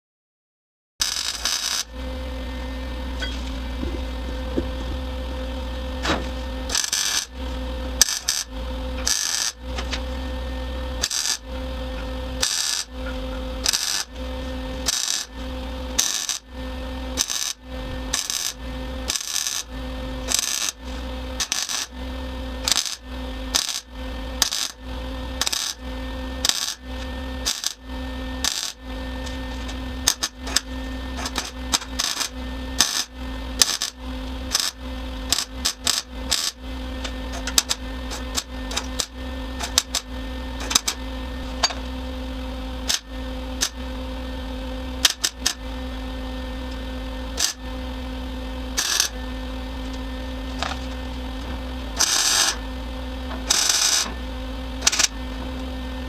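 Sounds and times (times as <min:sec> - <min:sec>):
steady electrical hum: 0:01.0 - 0:56.0.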